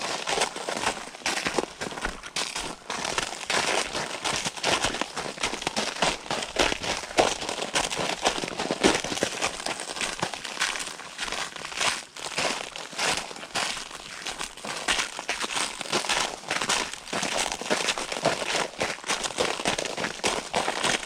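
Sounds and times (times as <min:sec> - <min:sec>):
footsteps crunching through snow: 0:00.0 - 0:21.0.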